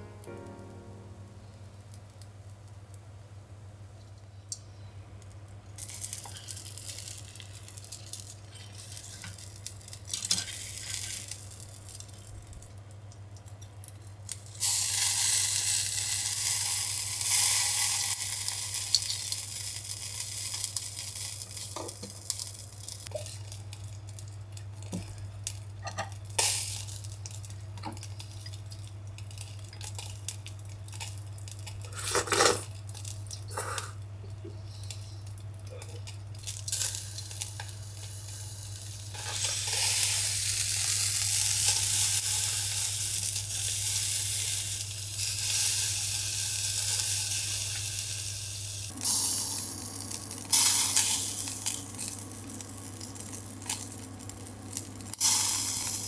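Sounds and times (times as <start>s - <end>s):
fat sizzling on charcoal: 0.0s - 56.0s.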